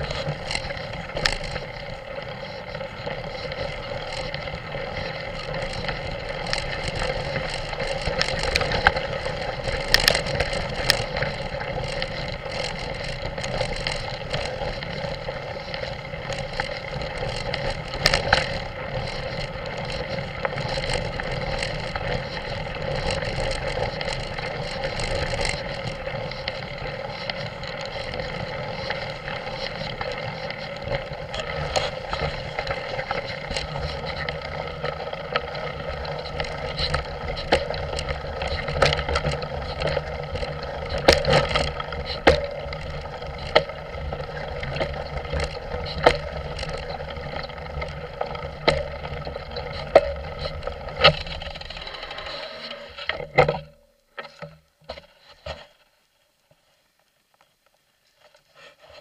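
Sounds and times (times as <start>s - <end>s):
vehicle engine running: 0.0s - 53.3s.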